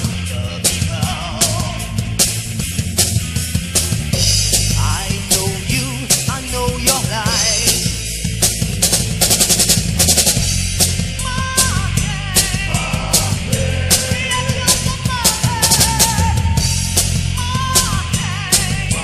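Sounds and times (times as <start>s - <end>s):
drum fills on snare and toms: 0.0s - 19.0s
heavy metal band playing: 0.0s - 19.0s.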